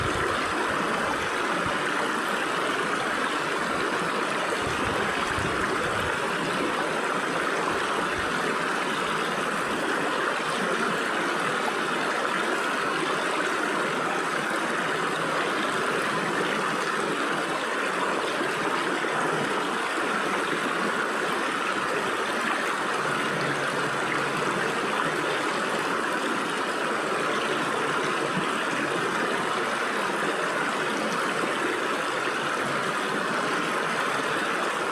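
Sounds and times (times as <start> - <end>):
stream water flowing over rocks: 0.0 - 34.9.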